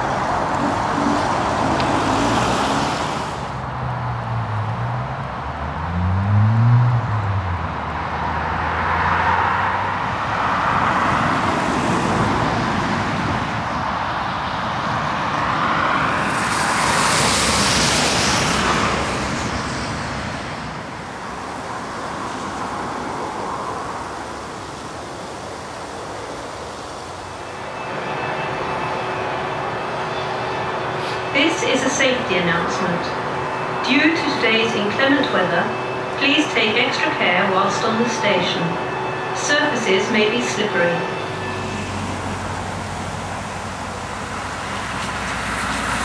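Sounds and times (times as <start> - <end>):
cars passing on snowy road: 0.0 - 46.0.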